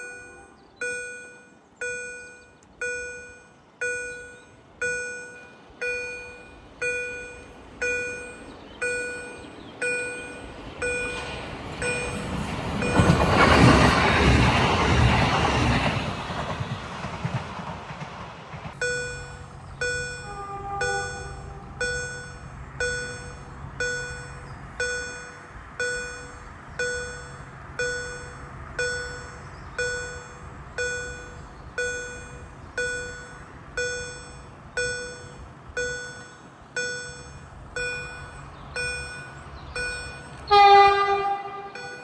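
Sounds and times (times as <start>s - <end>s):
level crossing bell dinging: 0.0s - 13.9s, 18.8s - 42.0s
train passing rumble: 0.0s - 42.0s.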